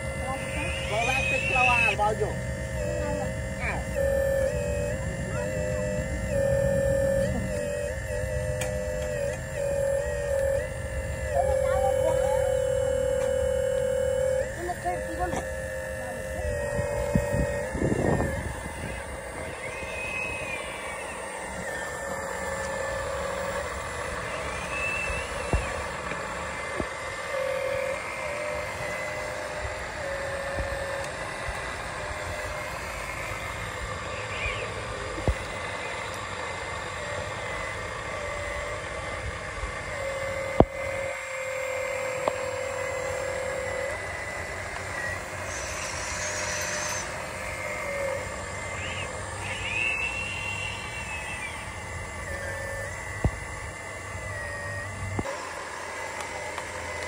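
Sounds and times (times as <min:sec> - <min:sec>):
small electric motors whining: 0:00.0 - 0:57.0.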